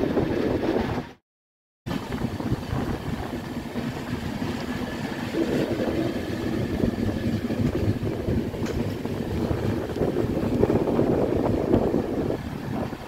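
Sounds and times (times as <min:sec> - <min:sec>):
train wheels rumbling on rails: 0:00.0 - 0:01.2, 0:01.9 - 0:13.0.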